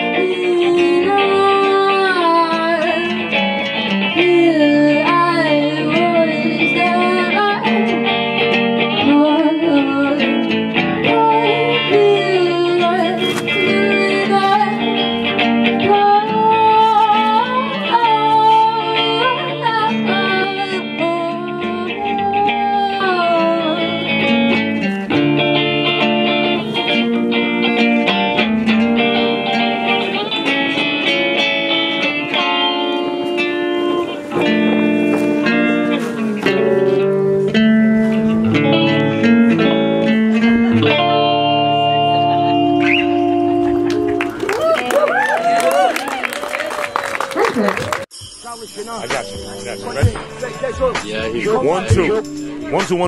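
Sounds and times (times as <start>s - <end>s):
live guitar band music: 0.0s - 53.0s.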